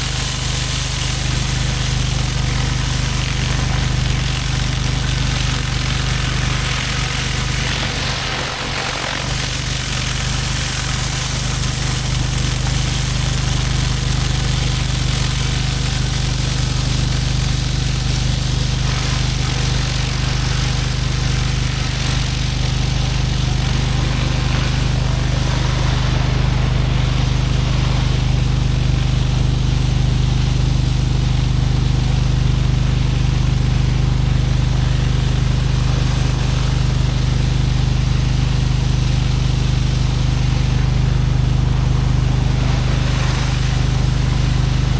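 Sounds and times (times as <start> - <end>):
pressure washer engine running: 0.0 - 44.9
water jets hissing on concrete: 0.0 - 44.9.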